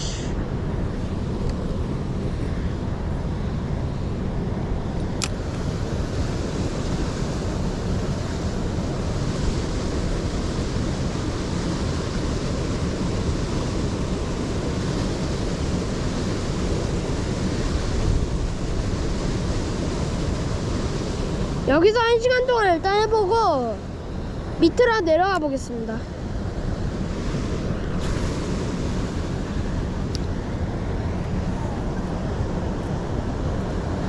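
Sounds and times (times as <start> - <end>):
stream rushing: 0.0 - 34.0
wind rumble on microphone: 0.0 - 34.0.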